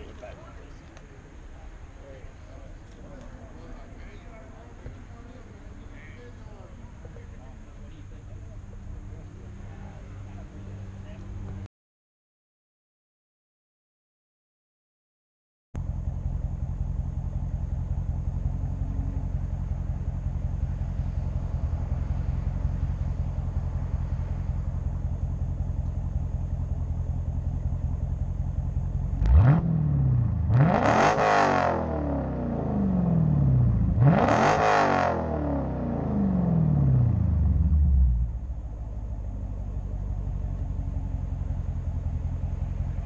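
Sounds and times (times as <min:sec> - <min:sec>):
car engine idling and revving: 0:00.0 - 0:11.7, 0:15.8 - 0:43.0.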